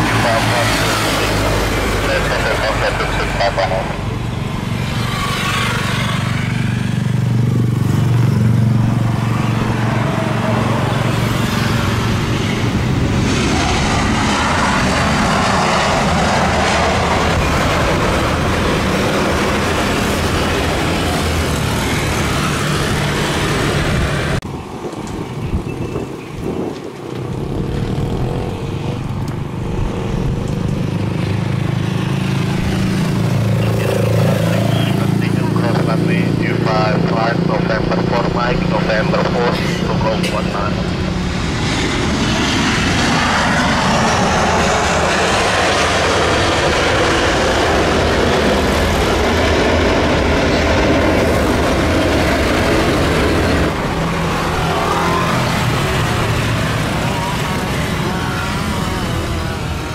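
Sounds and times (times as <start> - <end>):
jet airliner engine rumble: 0.0 - 59.9
road traffic: 0.0 - 59.9.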